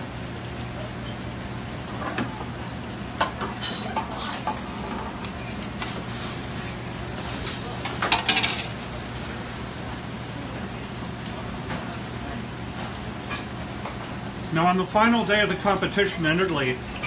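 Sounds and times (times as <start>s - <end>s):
pasta stirred in pan: 0.0s - 17.0s.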